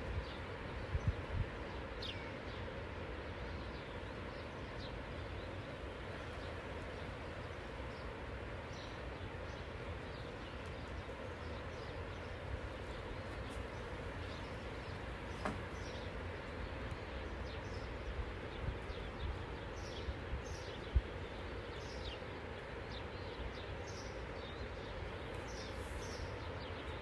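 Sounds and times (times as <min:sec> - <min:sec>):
sea and wind noise: 0:00.0 - 0:27.0.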